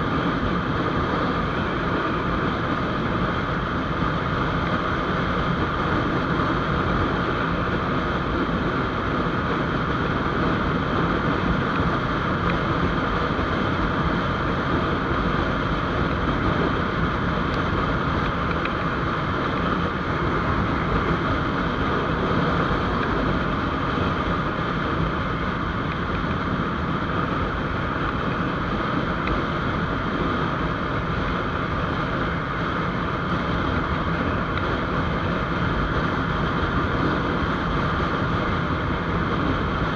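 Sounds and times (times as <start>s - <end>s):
motorcycle engine cruising: 0.0s - 39.9s
wind over microphone: 0.0s - 39.9s.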